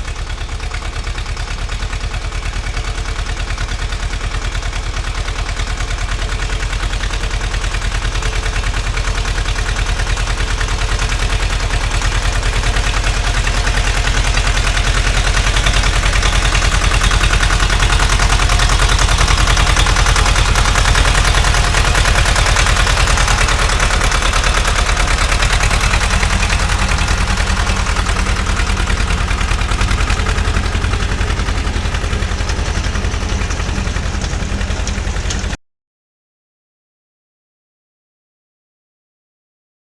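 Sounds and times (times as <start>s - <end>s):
tractor diesel engine running: 0.0s - 35.6s.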